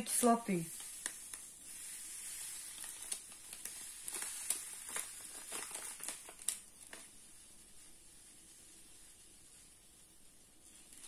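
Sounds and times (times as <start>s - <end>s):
paper sachet crinkling: 0.0s - 9.7s, 10.6s - 11.0s
steady high hiss: 0.0s - 11.0s.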